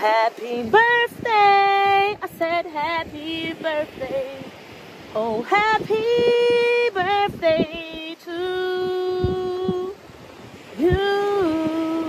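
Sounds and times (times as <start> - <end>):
person singing unaccompanied: 0.0 - 10.0, 10.7 - 12.0.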